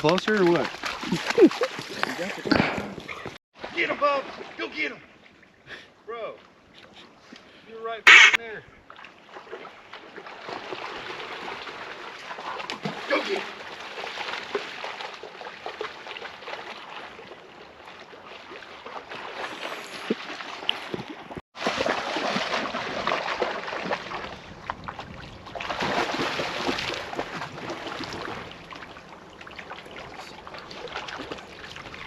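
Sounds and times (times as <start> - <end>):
water splashing and sloshing: 0.0 - 5.6, 8.8 - 32.0.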